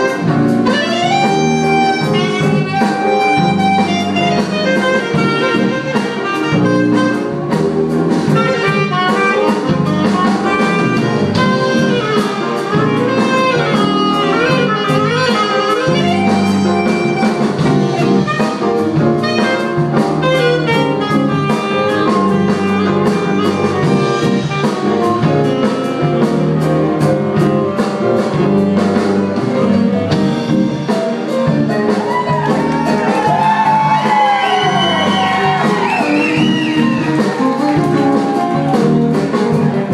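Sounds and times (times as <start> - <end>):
saxophones playing tune: 0.0 - 27.6, 33.8 - 39.6
drum kit beat: 0.0 - 39.9
electric bass: 0.0 - 39.9.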